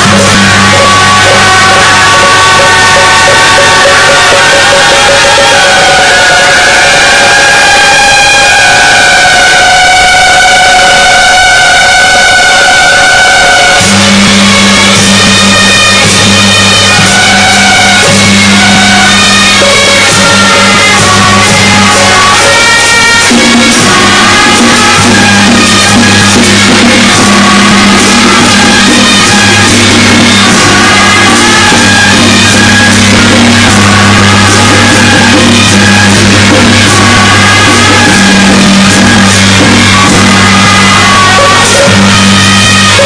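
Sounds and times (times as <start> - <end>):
loud music with drums: 0.0 - 43.0.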